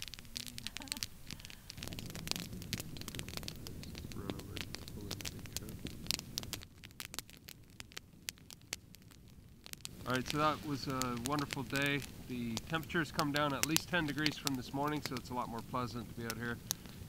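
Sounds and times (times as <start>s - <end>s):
campfire crackling and popping: 0.0s - 17.0s
low steady rush: 0.0s - 17.0s.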